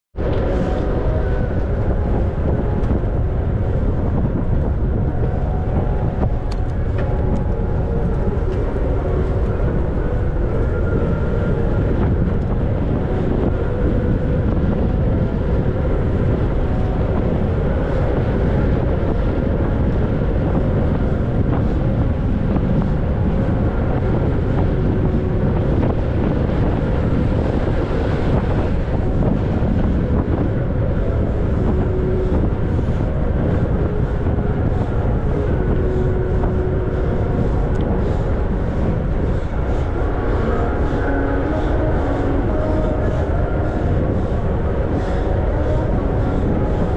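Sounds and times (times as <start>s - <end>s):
wind buffeting microphone: 0.1s - 46.9s.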